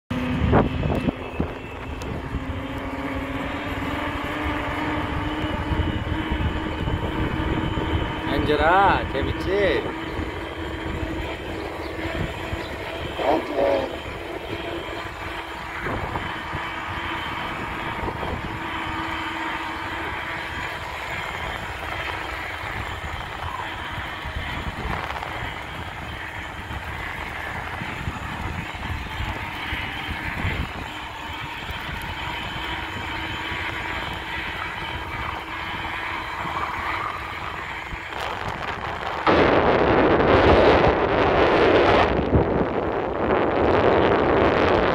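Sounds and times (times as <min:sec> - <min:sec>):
bicycle tyre road noise: 0:00.1 - 0:44.9
wind rumbling on microphone: 0:00.1 - 0:44.9.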